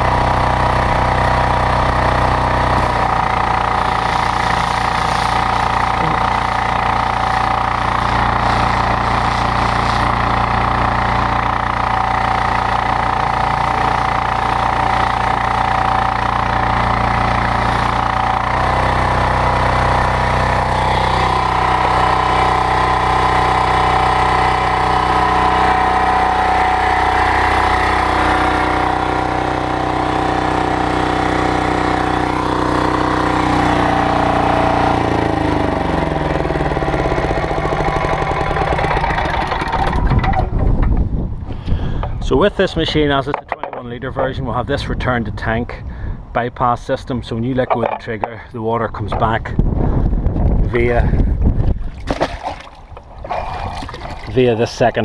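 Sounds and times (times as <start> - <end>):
diesel engine running: 0.0 - 46.3, 47.0 - 55.0.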